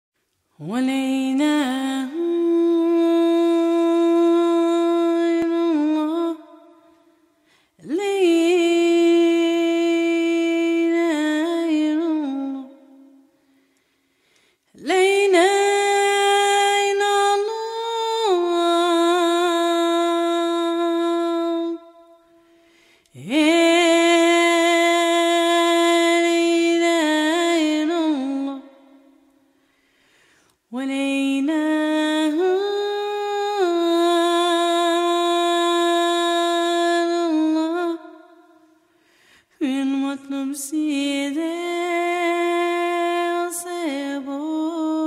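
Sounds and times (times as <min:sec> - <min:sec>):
solo voice singing a chant: 0:00.6 - 0:07.2, 0:07.8 - 0:13.3, 0:14.8 - 0:29.3, 0:30.7 - 0:38.8, 0:39.6 - 0:45.0.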